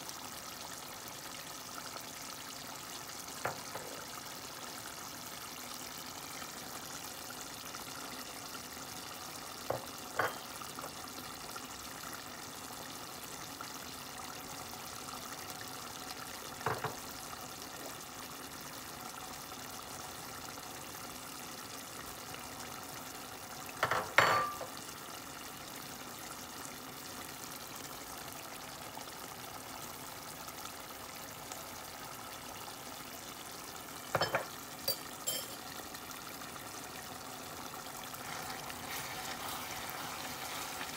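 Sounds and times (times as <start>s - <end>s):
curry bubbling in a pan: 0.0s - 40.9s.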